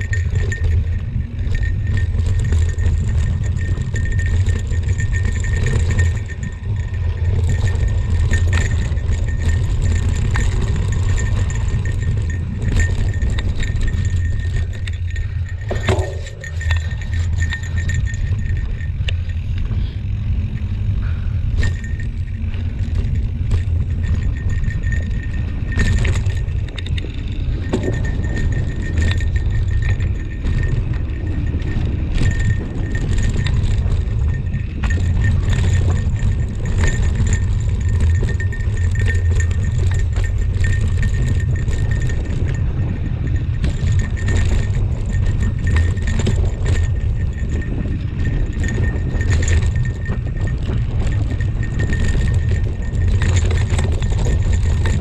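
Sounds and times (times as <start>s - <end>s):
bike rattling over bumps: 0.0s - 55.0s
wind buffeting microphone: 0.0s - 55.0s.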